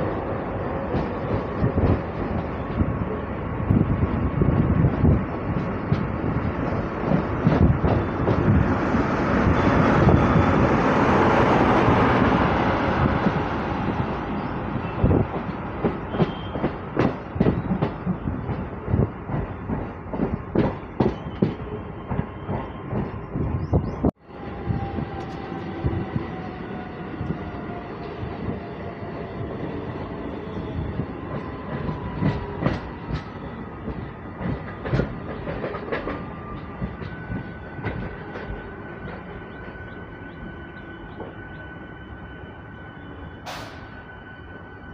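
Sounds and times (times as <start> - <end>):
train rushing on rails: 0.0 - 44.9.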